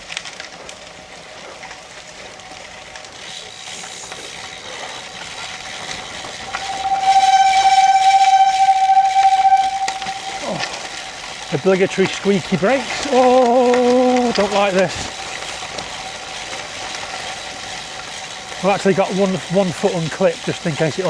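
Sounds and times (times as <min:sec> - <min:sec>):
bicycle brakes squealing: 0:03.3 - 0:20.8.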